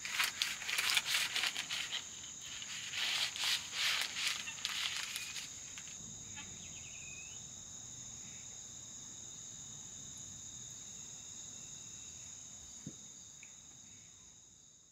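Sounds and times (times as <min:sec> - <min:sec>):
crickets trilling: 0:00.0 - 0:14.9.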